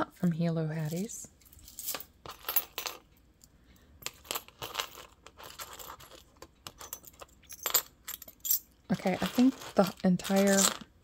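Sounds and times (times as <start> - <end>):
jewelry clinking and jingling: 0.8 - 11.0.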